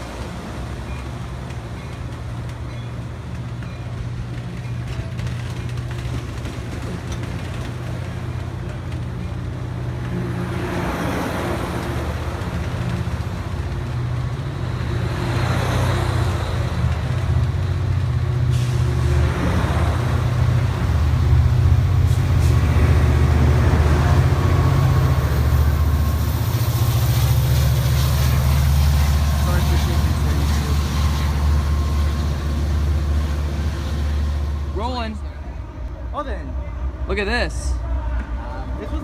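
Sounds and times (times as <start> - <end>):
diesel locomotive hum: 0.0 - 39.0
rushing of passing train cars: 0.0 - 39.0
train wheels rumbling on rail: 0.0 - 39.0.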